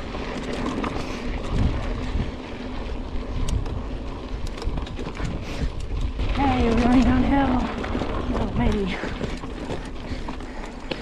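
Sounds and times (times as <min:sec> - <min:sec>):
bike clicks: 0:00.0 - 0:11.0
tyres rumbling on dirt: 0:00.0 - 0:11.0
wind over microphone: 0:00.8 - 0:10.4.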